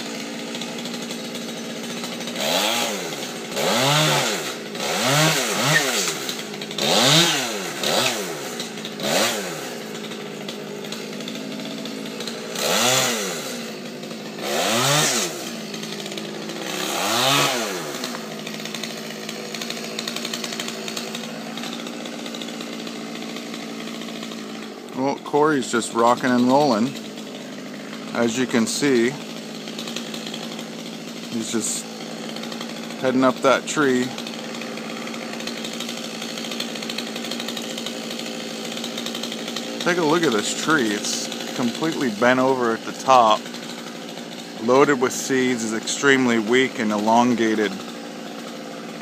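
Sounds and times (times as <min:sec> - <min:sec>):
chainsaw revving and idling: 0:00.0 - 0:49.0.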